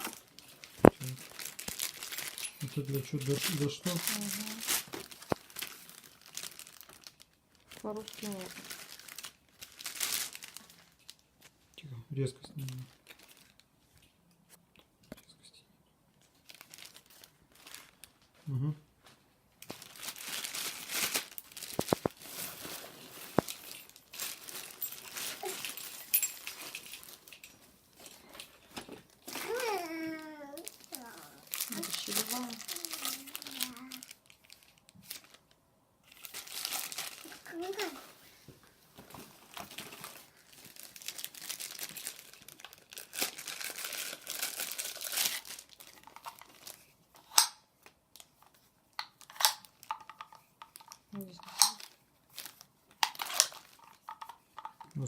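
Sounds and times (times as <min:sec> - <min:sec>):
plastic packaging crinkling: 0:00.0 - 0:11.5, 0:12.6 - 0:13.7, 0:16.2 - 0:18.4, 0:19.6 - 0:38.2, 0:39.0 - 0:55.0.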